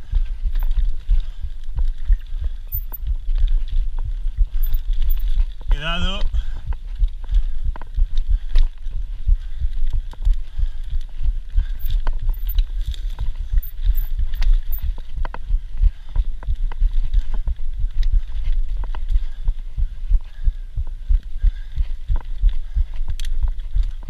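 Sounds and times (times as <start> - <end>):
bike rattles and clicks: 0.0 - 24.0
wind buffeting microphone: 0.0 - 24.0.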